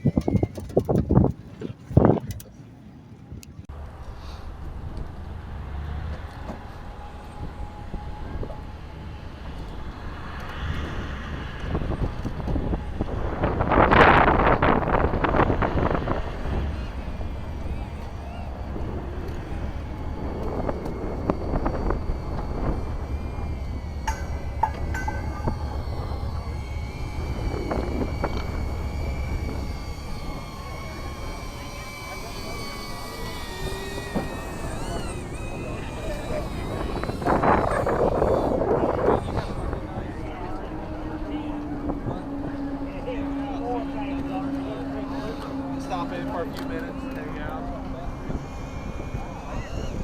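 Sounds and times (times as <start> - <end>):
thin whine: 0.0 - 2.6, 3.3 - 50.0
vehicle engine and road noise: 0.0 - 50.0.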